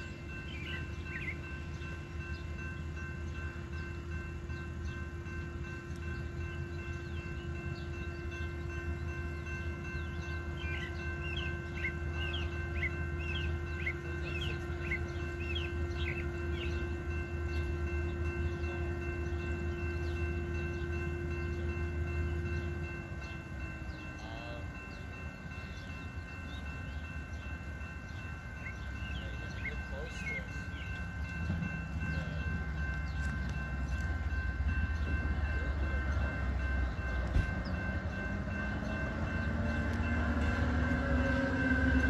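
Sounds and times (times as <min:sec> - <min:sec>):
birds chirping: 0:00.0 - 0:42.0
diesel locomotive drone: 0:00.0 - 0:42.0.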